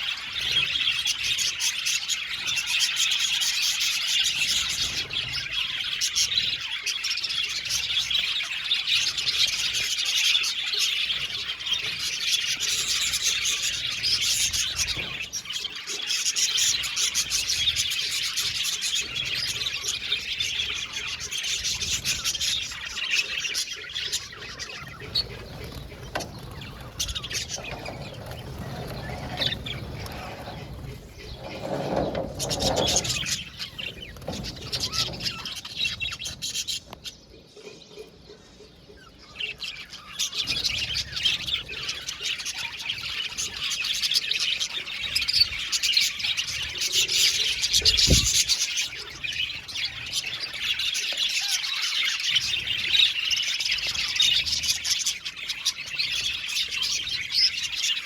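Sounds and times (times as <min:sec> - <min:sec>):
flock of budgerigars chattering: 0:00.0 - 0:58.0.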